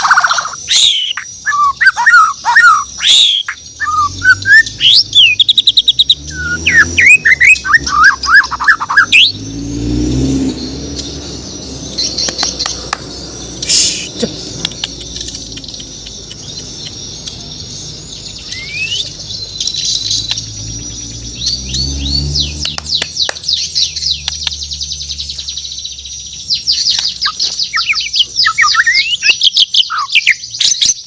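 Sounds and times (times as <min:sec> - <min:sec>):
bird singing whistled notes: 0:00.0 - 0:31.0.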